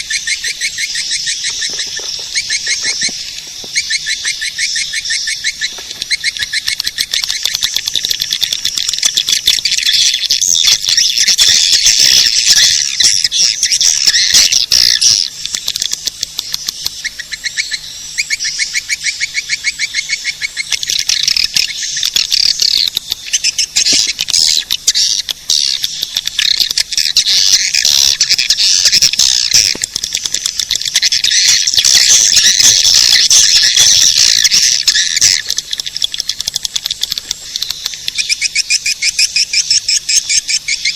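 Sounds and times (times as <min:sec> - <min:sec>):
swiftlets twittering: 0:00.0 - 0:40.9.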